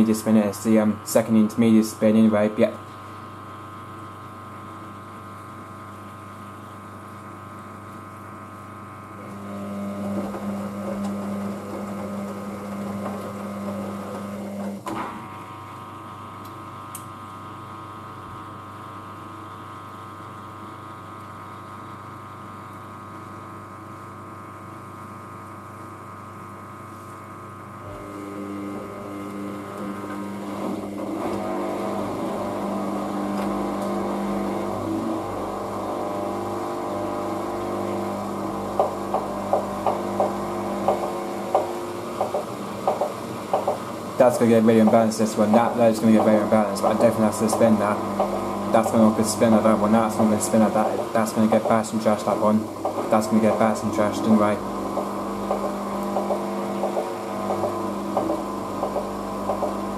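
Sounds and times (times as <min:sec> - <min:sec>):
steady machine hum: 0:00.0 - 0:59.9
washing machine drum motor: 0:04.3 - 0:23.0, 0:27.6 - 0:59.9.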